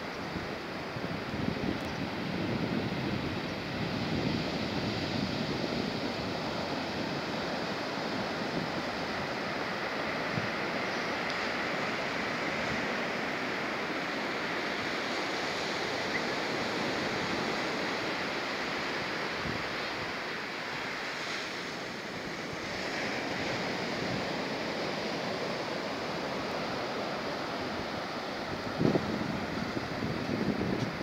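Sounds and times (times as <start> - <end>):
surf breaking on a beach: 0.0 - 31.0.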